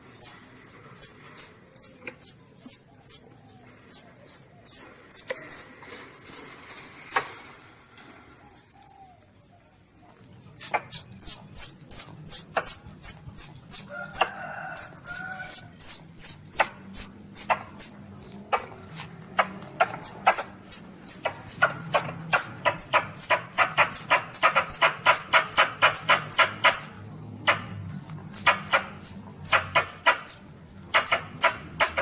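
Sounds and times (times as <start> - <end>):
palm civet squeaking: 0.0 - 7.4, 10.6 - 32.0.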